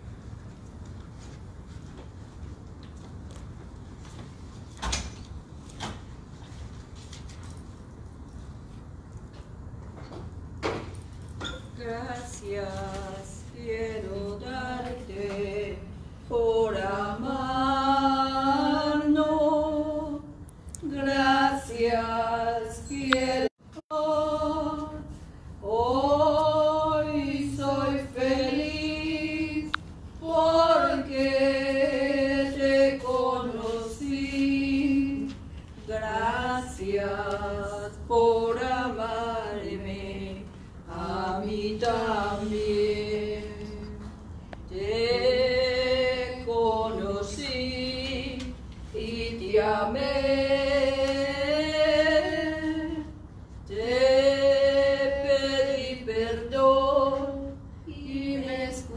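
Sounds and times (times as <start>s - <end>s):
woman singing a hymn unaccompanied: 10.8s - 58.9s.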